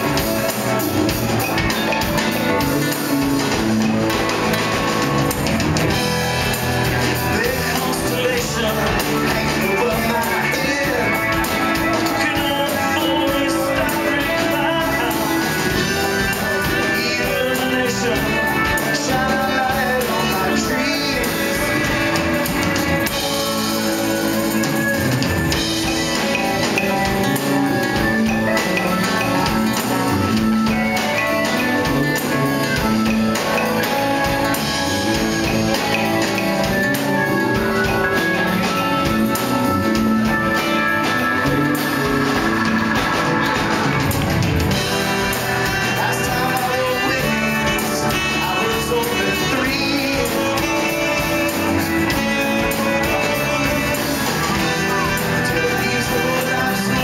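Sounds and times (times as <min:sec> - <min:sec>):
acoustic guitar: 0:00.0 - 0:57.0
live band playing: 0:00.0 - 0:57.0
man singing: 0:05.9 - 0:42.5, 0:44.7 - 0:57.0.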